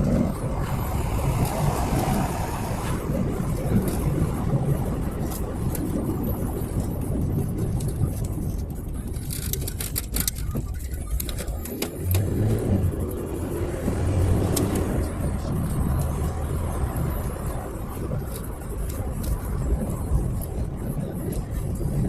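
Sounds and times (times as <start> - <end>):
car engine and road rumble: 0.0 - 22.0
sharp clicks and rattles: 0.0 - 22.0.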